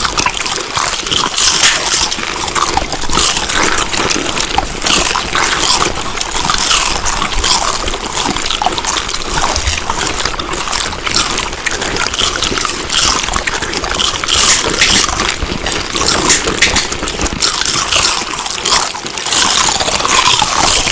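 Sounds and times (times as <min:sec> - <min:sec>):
chewing food with crunches: 0:00.0 - 0:20.9.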